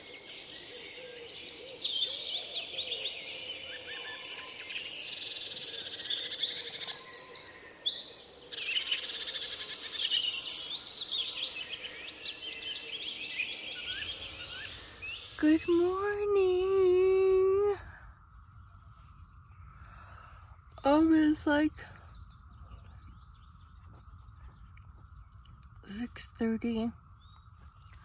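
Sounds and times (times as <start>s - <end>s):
songbirds singing and trilling: 0.0s - 28.0s.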